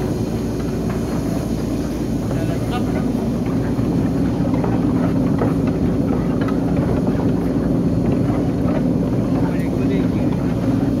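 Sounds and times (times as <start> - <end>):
threshing machine humming: 0.0 - 11.0.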